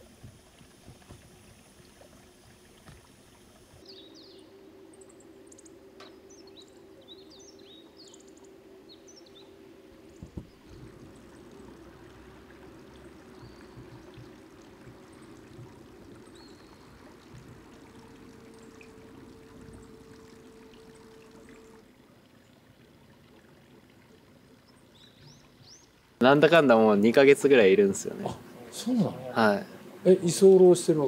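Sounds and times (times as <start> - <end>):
water flowing: 0.0 - 31.0.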